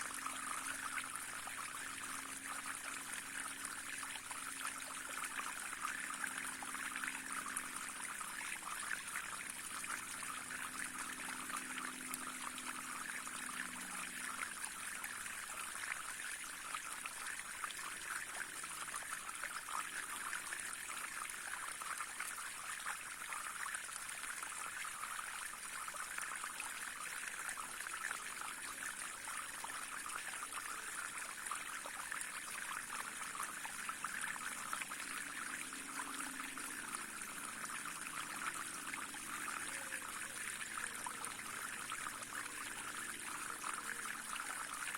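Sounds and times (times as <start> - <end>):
small stream trickling: 0.0 - 44.9.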